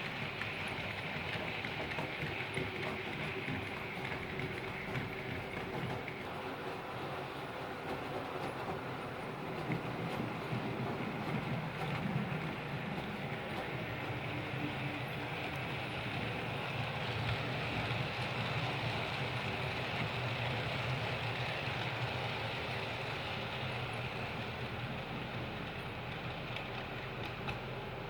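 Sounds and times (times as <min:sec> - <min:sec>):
model train running on track: 0:00.0 - 0:28.0.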